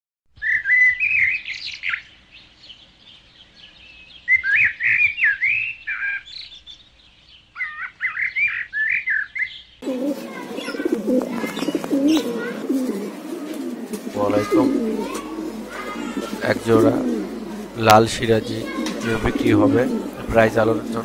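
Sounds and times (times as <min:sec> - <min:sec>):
songbird singing warbled phrases: 0:00.4 - 0:21.0.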